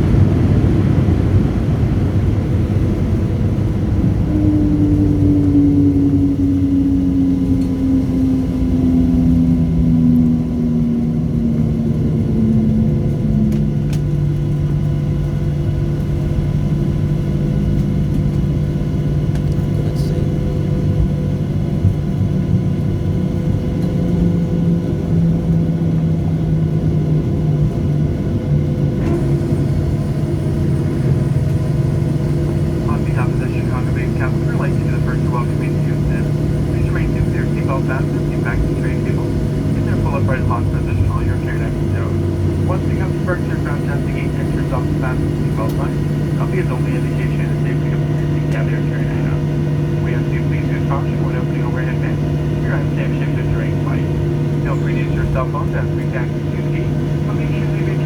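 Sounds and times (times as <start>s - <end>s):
jet engines spooling down: 0.0s - 58.0s
low cabin hum and rumble: 0.0s - 58.0s.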